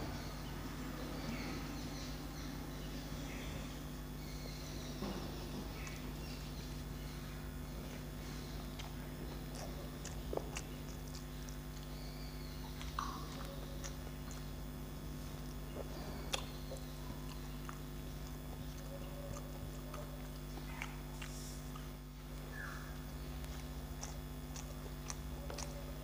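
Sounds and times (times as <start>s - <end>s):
steady low hum: 0.0s - 26.0s
man chewing: 3.3s - 26.0s.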